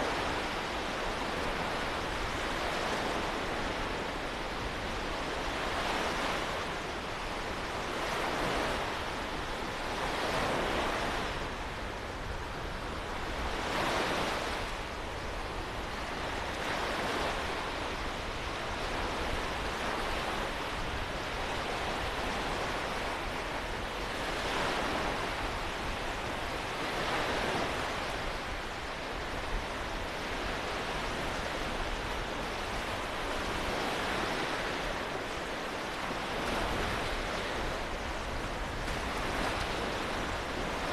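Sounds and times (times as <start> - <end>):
waves breaking on beach: 0.0 - 40.9
wind rumbling on microphone: 0.0 - 40.9.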